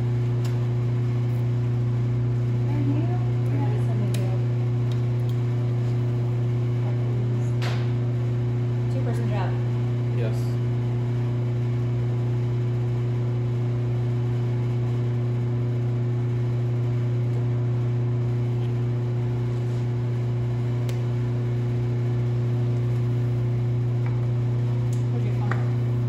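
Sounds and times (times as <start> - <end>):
low mechanical motor hum: 0.0 - 26.0.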